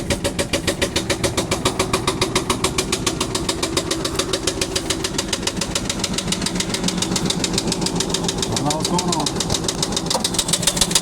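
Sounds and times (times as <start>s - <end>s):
engine running with rapid knock: 0.0s - 11.0s.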